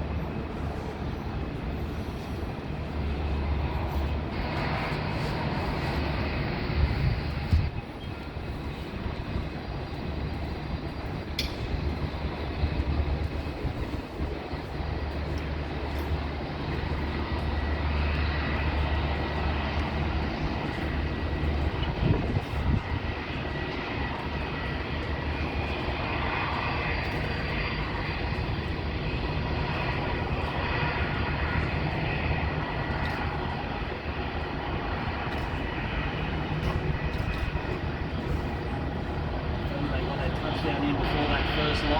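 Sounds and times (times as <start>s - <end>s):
jet engine noise: 0.0s - 41.9s
wind buffeting microphone: 0.0s - 41.9s.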